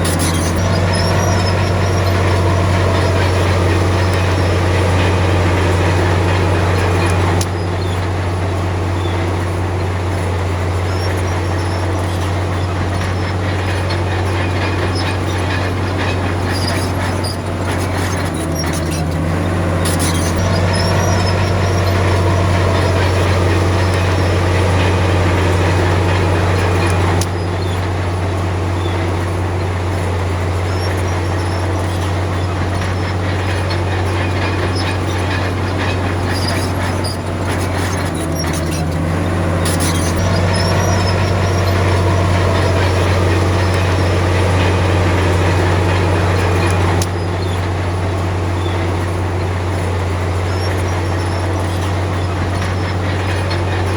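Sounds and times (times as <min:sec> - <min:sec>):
bulldozer diesel engine droning: 0:00.0 - 0:53.9
tracks clanking and rattling: 0:00.0 - 0:53.9.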